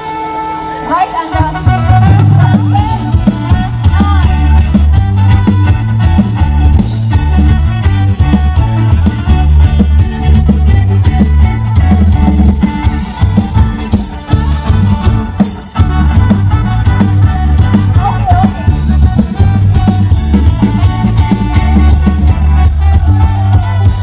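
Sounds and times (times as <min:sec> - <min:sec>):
live band playing dance music: 0:00.0 - 0:24.0.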